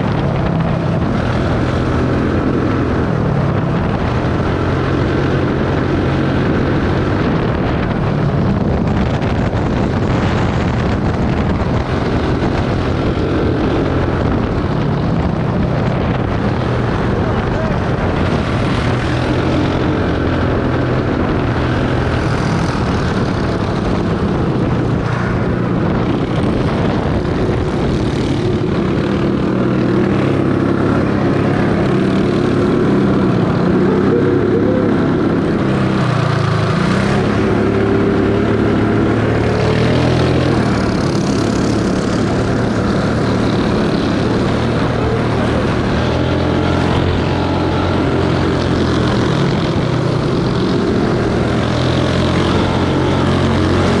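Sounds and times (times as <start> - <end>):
kart engines running: 0.0 - 54.0.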